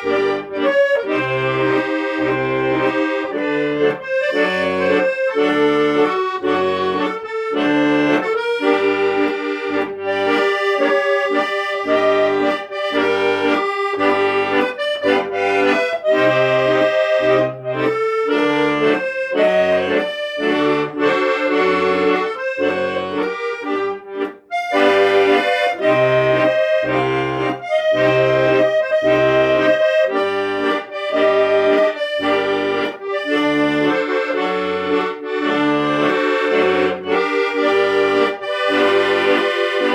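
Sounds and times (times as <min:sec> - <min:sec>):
accordion music: 0:00.0 - 0:39.9.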